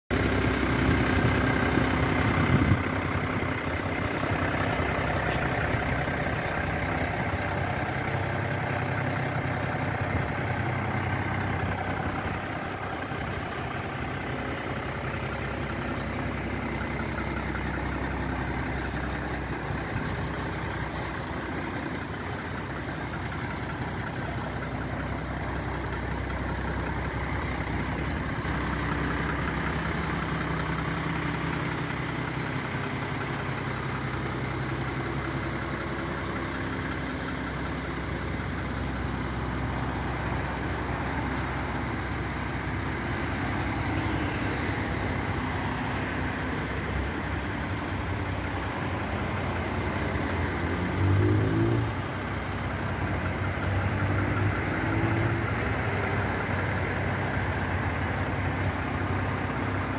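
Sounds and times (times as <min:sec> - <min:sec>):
diesel engine idling: 0:00.1 - 0:59.9.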